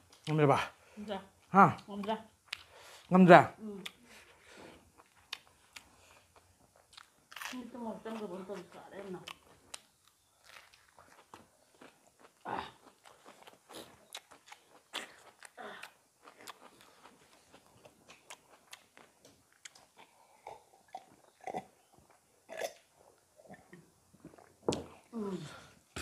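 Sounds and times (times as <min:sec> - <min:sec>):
wet chewing: 0:03.8 - 0:25.0.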